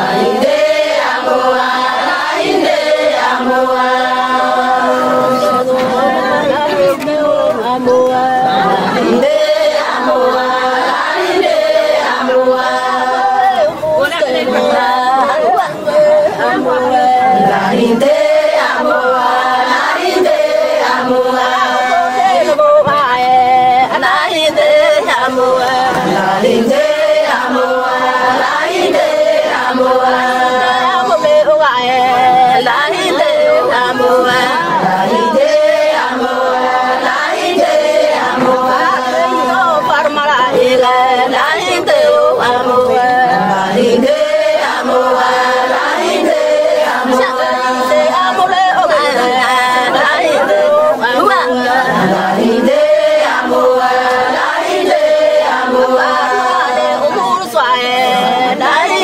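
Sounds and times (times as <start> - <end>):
group of voices chanting: 0.0 - 59.0.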